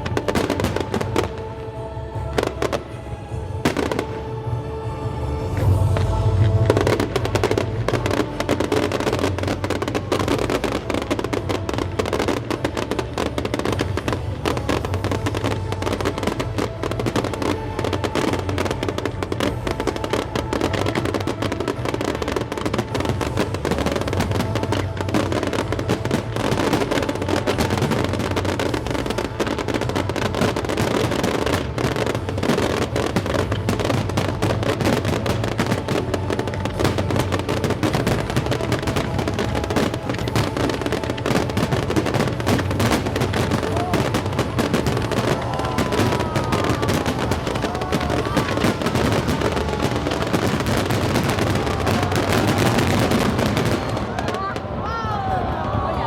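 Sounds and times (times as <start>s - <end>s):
fireworks crackling and popping: 0.0s - 56.0s
music playing: 0.0s - 56.0s.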